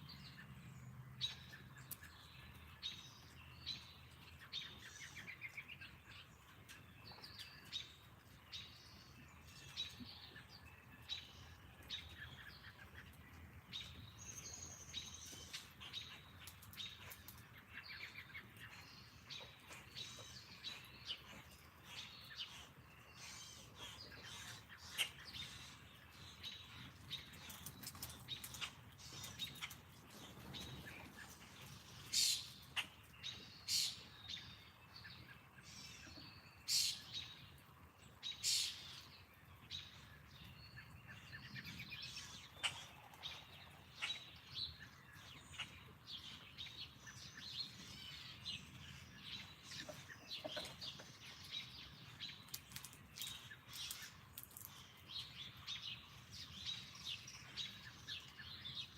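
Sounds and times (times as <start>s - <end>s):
birds chirping: 0.0s - 58.9s
faint outdoor hiss: 0.0s - 58.9s.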